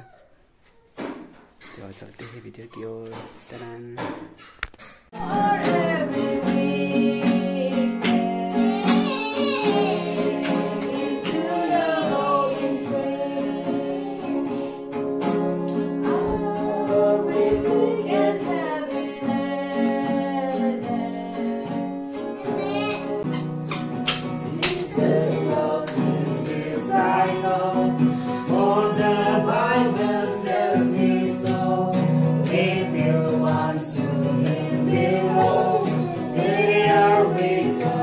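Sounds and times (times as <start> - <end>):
acoustic guitar: 0.0 - 38.0
group of voices singing: 5.2 - 38.0.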